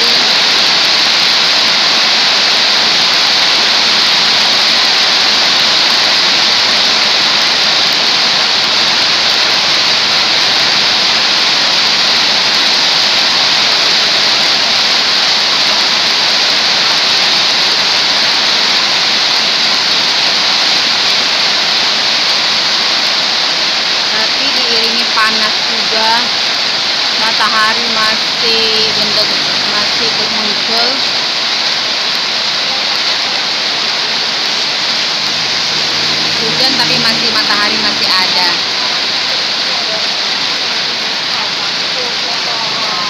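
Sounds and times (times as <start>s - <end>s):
heavy rain downpour: 0.0s - 43.0s.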